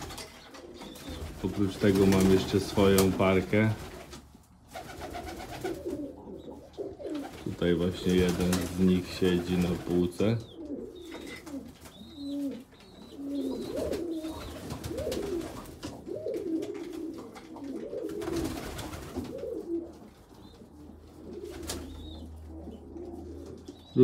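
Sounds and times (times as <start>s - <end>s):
pigeons cooing: 0.0s - 4.1s, 4.7s - 24.0s.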